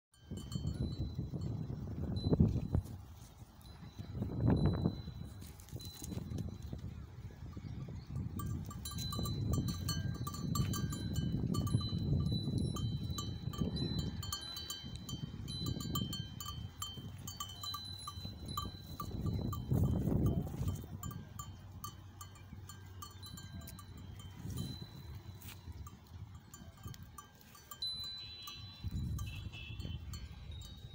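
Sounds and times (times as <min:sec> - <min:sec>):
goat bells ringing: 0:00.2 - 0:30.9.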